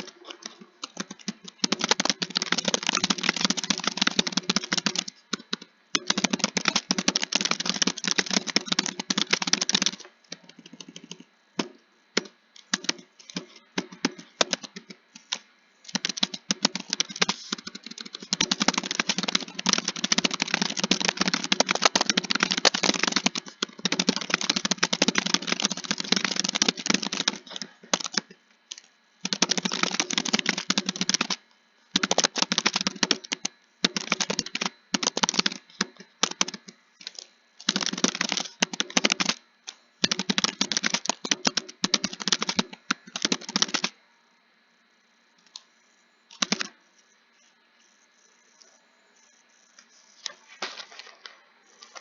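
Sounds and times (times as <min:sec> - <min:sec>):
keyboard typing: 0:00.0 - 0:44.0, 0:46.3 - 0:46.8
faint hum: 0:00.0 - 0:52.0.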